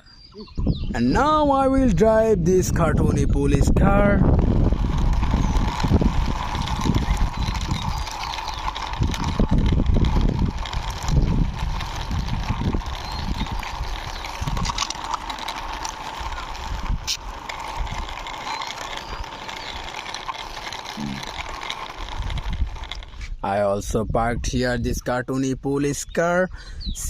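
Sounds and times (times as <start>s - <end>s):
toy car wheels rolling and scraping: 1.4s - 25.0s.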